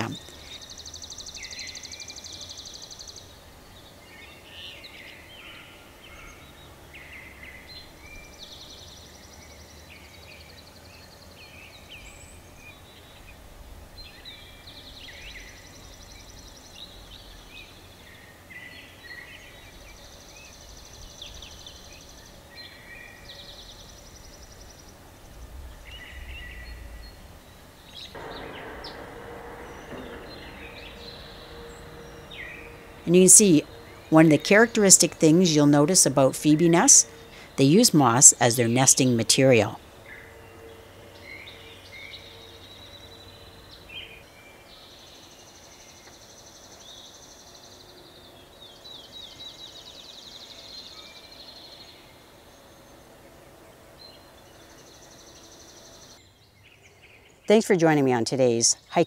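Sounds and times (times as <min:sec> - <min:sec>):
background hiss: 0:00.0 - 0:59.0
songbirds trilling and chirping: 0:00.0 - 0:59.0.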